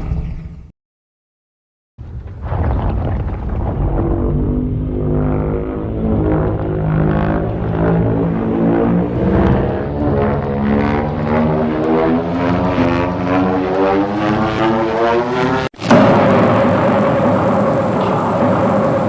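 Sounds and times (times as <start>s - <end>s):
low pulsing monster drone: 2.1s - 19.0s.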